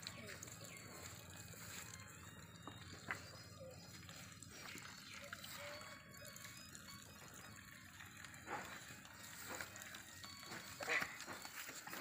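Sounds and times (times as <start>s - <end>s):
faint trickle of water: 0.0s - 12.0s.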